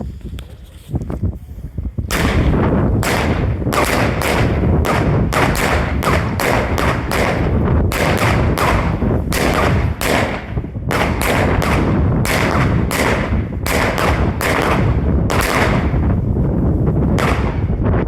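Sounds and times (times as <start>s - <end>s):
continuous low rumble: 0.0s - 18.0s
firework bangs: 2.0s - 18.0s.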